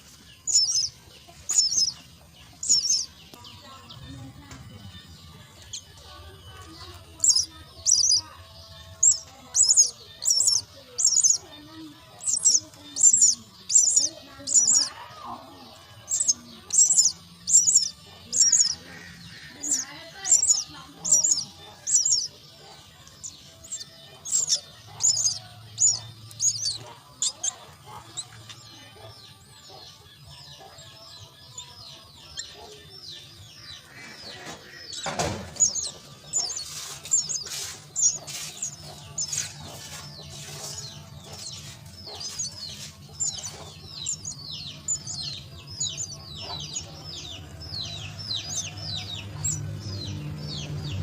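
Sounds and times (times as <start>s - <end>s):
chicks begging calls: 0.0s - 51.0s.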